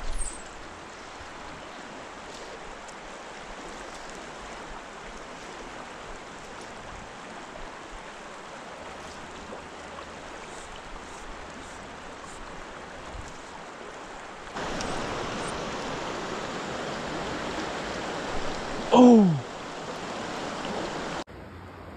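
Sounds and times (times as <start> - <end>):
creek flowing over rocks: 0.1 - 21.3.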